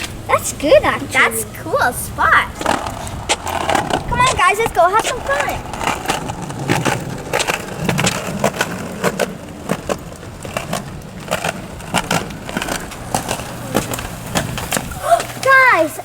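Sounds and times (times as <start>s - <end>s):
bicycle rolling over rough ground: 0.0s - 16.0s.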